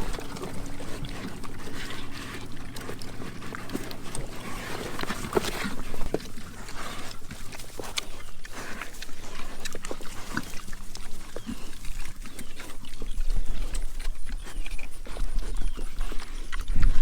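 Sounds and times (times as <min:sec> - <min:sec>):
pigs chewing: 0:00.0 - 0:17.0.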